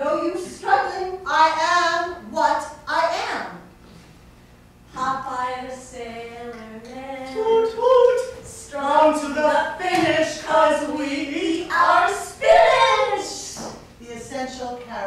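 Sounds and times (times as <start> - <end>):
woman singing unaccompanied: 0.0 - 3.5, 4.9 - 15.0.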